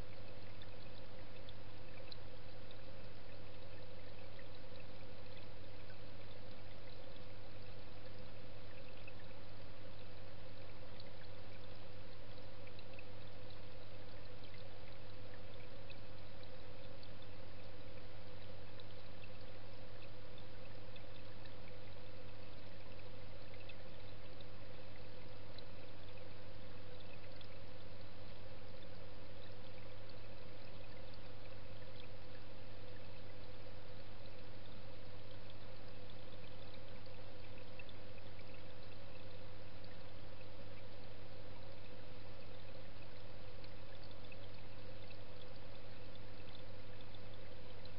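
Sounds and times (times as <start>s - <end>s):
constant low hum: 0.0s - 47.9s
underwater flowing water: 0.0s - 47.9s.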